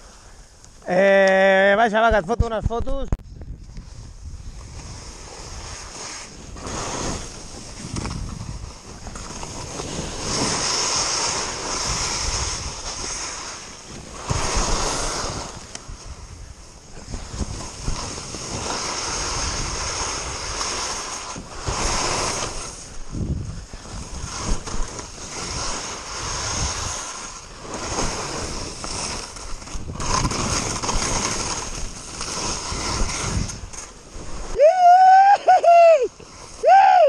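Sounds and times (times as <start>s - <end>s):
skis scraping on snow: 0.0s - 1.0s, 2.1s - 37.0s
wind rumbling on microphone: 2.0s - 37.0s.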